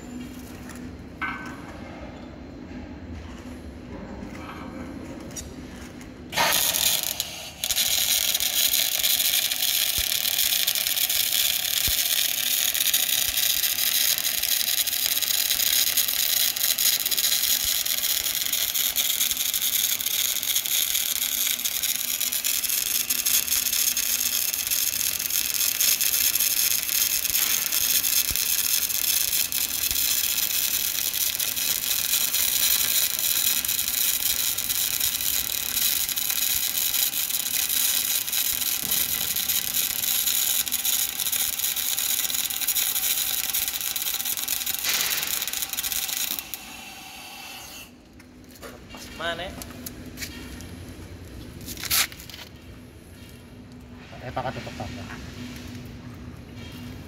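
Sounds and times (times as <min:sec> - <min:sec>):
arc welding crackle and sizzle: 0:05.3 - 0:57.0.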